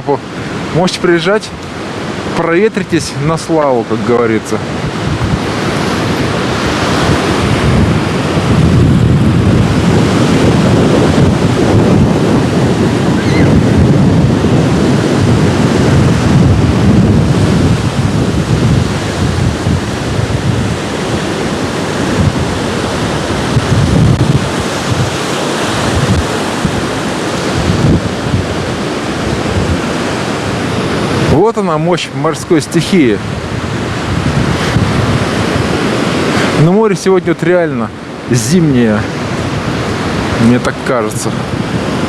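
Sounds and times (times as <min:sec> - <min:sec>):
gusty wind buffeting microphone: 0:00.0 - 0:42.0
storm surf breaking: 0:00.0 - 0:42.0.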